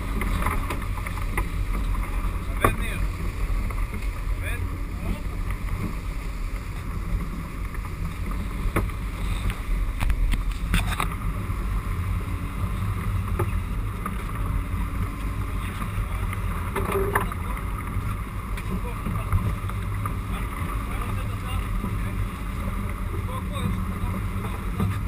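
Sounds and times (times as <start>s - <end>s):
boat engine rumbling: 0.0s - 25.0s
water rushing past hull: 0.0s - 25.0s.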